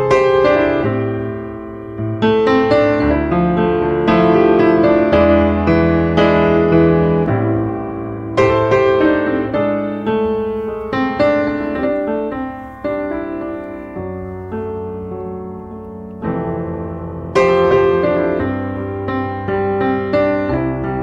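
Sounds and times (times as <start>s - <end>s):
slow gentle piano music: 0.0s - 21.0s.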